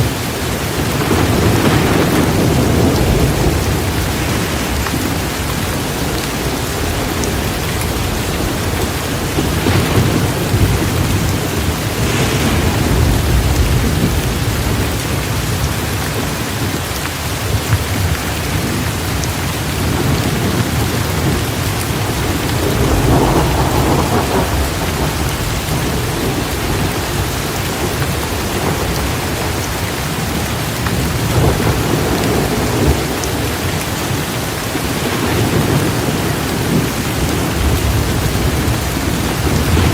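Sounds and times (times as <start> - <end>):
heavy rain pouring: 0.0 - 39.9
low rolling thunder: 0.0 - 39.9.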